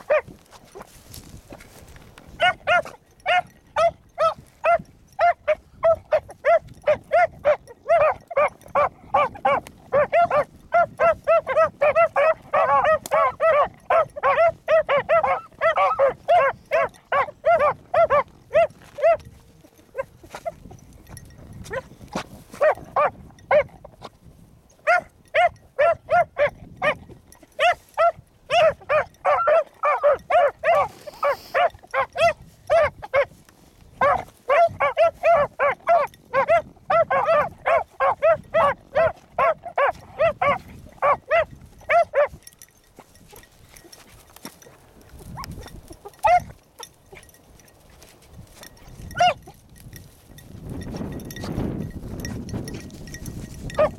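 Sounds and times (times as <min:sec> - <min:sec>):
puppies baying: 0:00.0 - 0:00.9, 0:02.3 - 0:24.0, 0:24.8 - 0:33.4, 0:34.0 - 0:49.6, 0:50.7 - 0:53.9.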